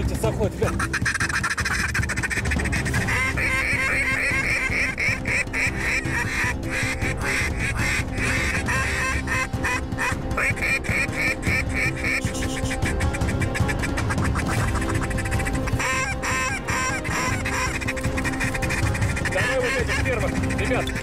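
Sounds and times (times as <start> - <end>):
ducks quacking: 0.0 - 21.0.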